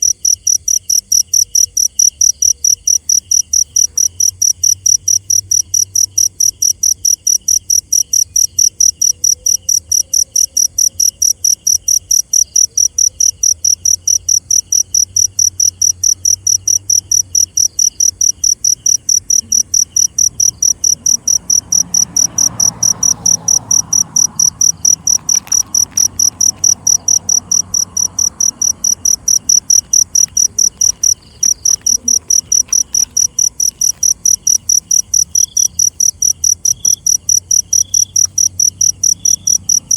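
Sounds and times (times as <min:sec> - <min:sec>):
cricket chirping: 0:00.0 - 0:39.9
fainter lower insect chirping: 0:00.0 - 0:39.9.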